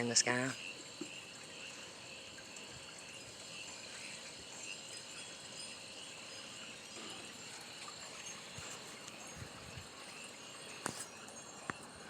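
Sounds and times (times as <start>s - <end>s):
crickets and insects trilling: 0.0s - 12.0s.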